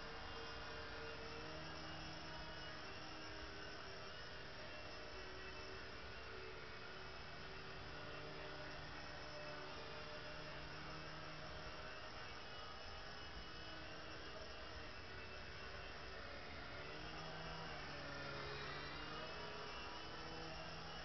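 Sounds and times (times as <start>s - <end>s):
toy helicopter motors humming: 0.0s - 21.0s.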